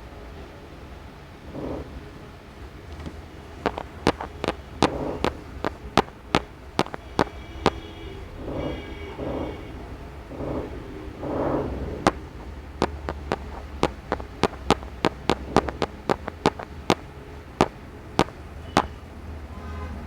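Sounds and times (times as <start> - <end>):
breath-like rush: 1.4 - 18.5.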